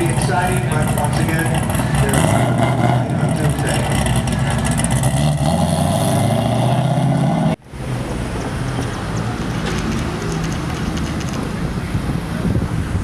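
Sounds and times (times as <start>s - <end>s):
loud car engine and exhaust: 0.0s - 13.0s
traffic: 0.0s - 13.0s.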